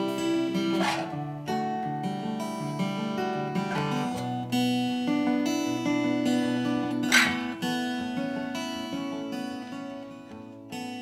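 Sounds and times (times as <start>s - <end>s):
scratchy guitar strums: 0.0s - 10.9s
acoustic guitar playing: 0.0s - 11.0s.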